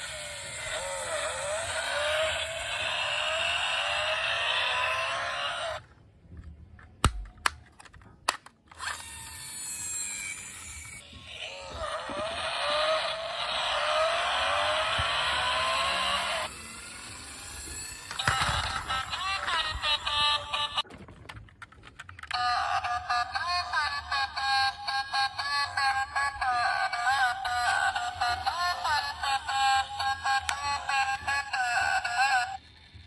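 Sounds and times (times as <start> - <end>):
toy car wheels rolling on hard surface: 0.0 - 6.5, 8.8 - 33.0.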